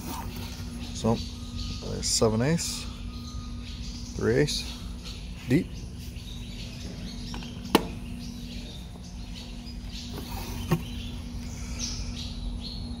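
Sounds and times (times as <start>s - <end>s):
faint high chirping: 0.0s - 13.0s
steady low hum: 0.0s - 13.0s.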